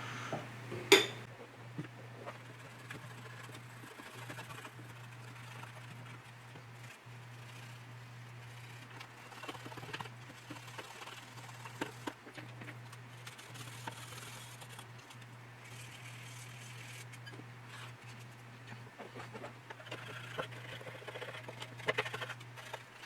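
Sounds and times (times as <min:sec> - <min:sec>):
low electrical hum: 0:00.0 - 0:23.0
plastic parts scratching and clicking: 0:02.2 - 0:23.0.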